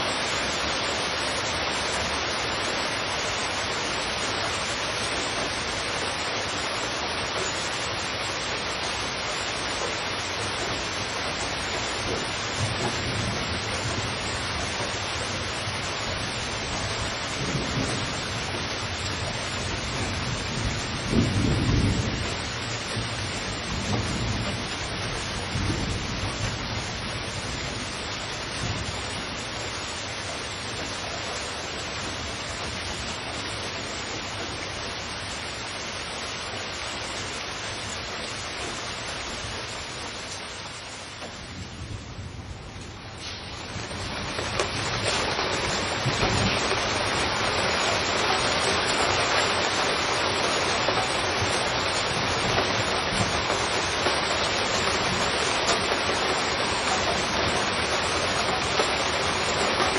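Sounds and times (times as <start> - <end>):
thunder rumbling: 0.0 - 31.0, 41.1 - 59.9
heavy rain falling: 0.0 - 59.9.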